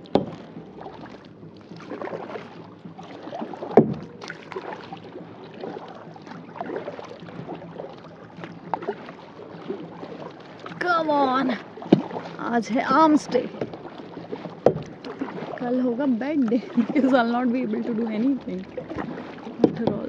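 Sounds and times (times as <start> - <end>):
paddle strokes splashing water: 0.0 - 20.0.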